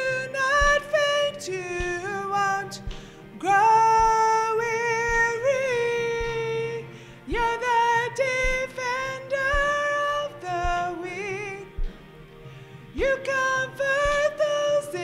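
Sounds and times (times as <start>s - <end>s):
backing track with low beat: 0.0s - 15.0s.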